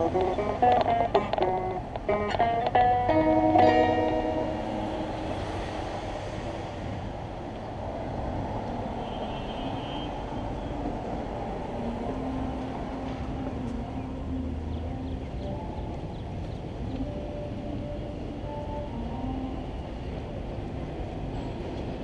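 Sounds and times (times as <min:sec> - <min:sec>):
train rumbling overhead: 0:00.0 - 0:22.0.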